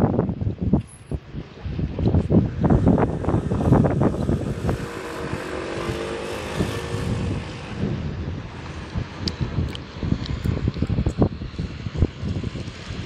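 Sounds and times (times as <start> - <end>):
wind buffeting microphone: 0.0 - 13.0
engine passing by: 2.4 - 13.0.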